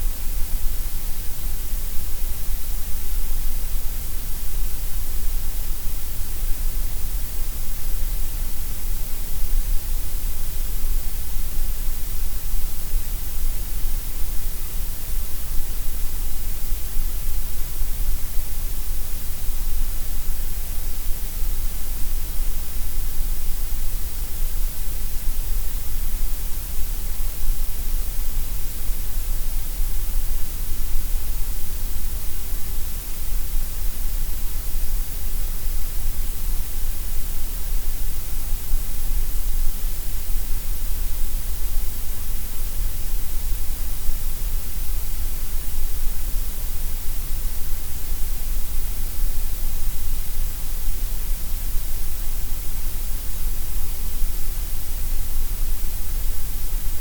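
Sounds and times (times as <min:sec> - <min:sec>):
synthetic grey noise hiss: 0:00.0 - 0:57.0.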